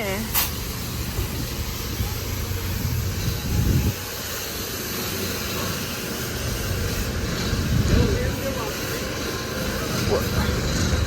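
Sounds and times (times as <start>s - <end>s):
pressure washer spraying hiss: 0.0s - 11.0s.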